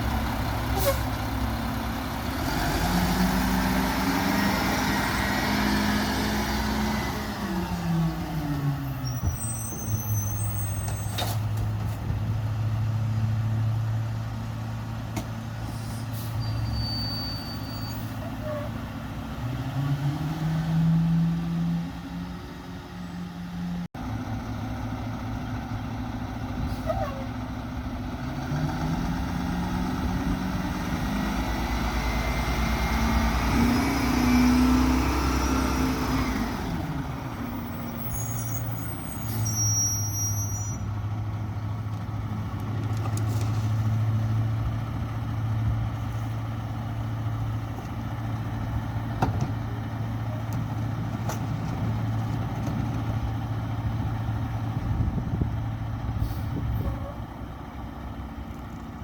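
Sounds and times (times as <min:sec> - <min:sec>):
diesel engine revving: 0:00.0 - 0:10.7, 0:18.1 - 0:59.0.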